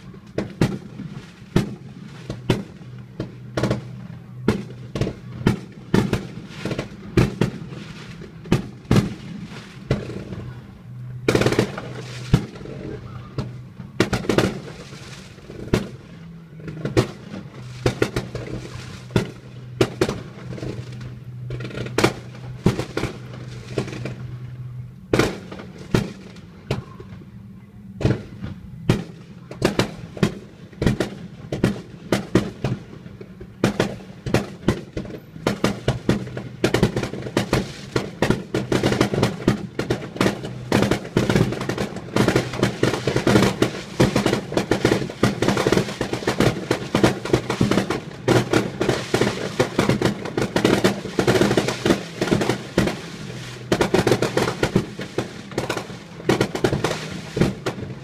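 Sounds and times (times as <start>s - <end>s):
fireworks bursting with sharp bangs: 0.0s - 27.2s, 27.9s - 58.0s
steady low hum: 0.0s - 58.0s.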